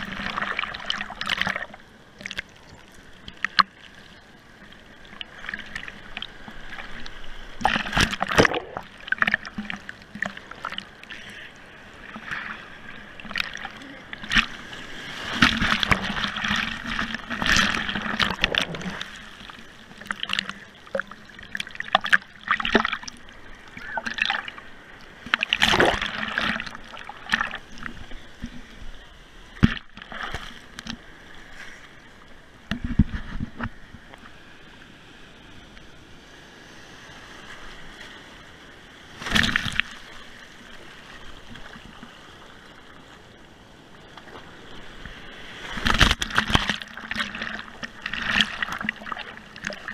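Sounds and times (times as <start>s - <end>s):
surf splashing: 0.0s - 49.9s.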